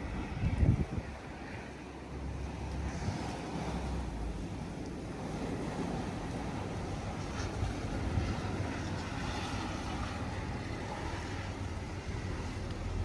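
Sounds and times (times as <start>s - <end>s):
blizzard wind blowing: 0.0s - 13.0s
wind buffeting microphone: 0.0s - 13.0s.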